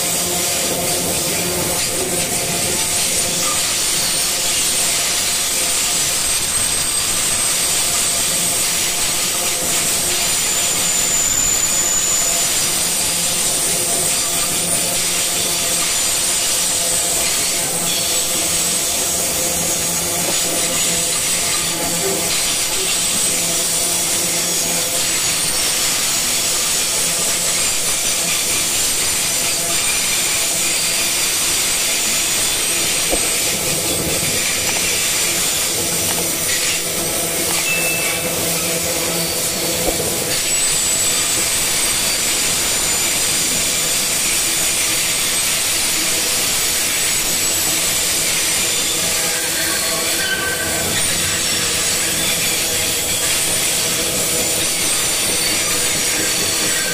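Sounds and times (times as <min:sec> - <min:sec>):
freight train rumble and rattle: 0:00.0 - 0:56.9
train wheels squealing: 0:00.0 - 0:56.9.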